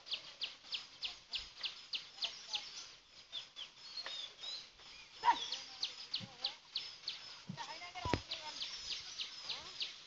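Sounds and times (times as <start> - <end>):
other bird chirps: 0.0 - 10.0.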